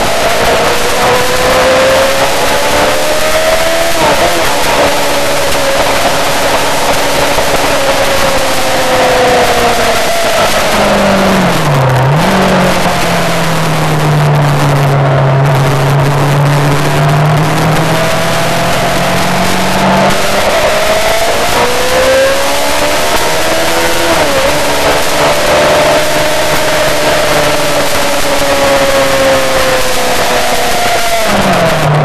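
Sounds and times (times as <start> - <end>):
motorcycle engine running hard: 0.0 - 32.0
wind rush: 0.0 - 32.0.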